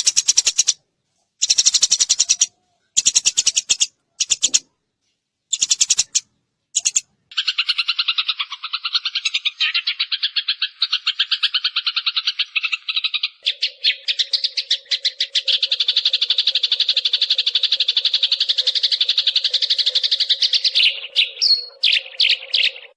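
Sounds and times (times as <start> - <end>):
sparrows chirping: 0.0 - 4.8, 5.4 - 22.9.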